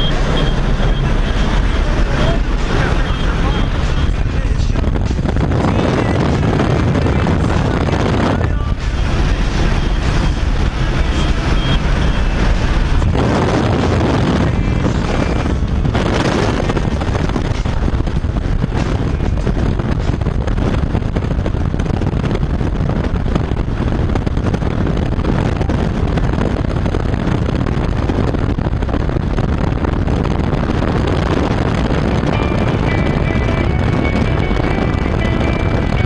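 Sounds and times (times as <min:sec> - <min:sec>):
airplane slipstream and engine noise: 0:00.0 - 0:36.0
wind buffeting microphone: 0:00.0 - 0:36.0.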